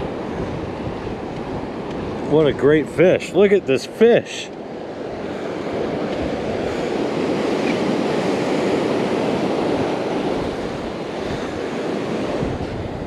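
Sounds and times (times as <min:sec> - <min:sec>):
wind buffeting microphone: 0:00.0 - 0:03.8, 0:04.5 - 0:13.0
surf washing onto beach: 0:00.0 - 0:13.0.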